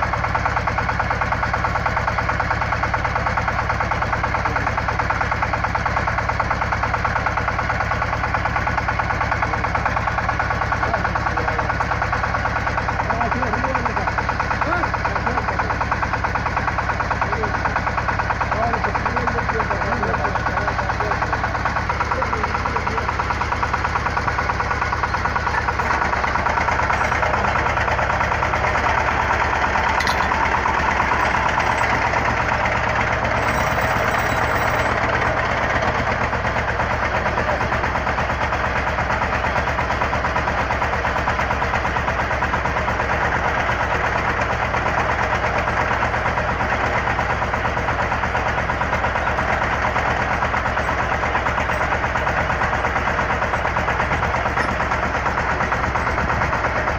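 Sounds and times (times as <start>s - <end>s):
drilling rig engine running: 0.0s - 56.9s.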